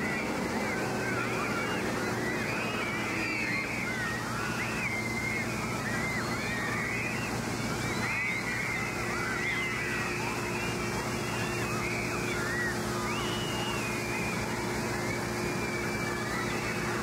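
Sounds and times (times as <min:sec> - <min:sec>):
children shrieking: 0:00.0 - 0:17.0.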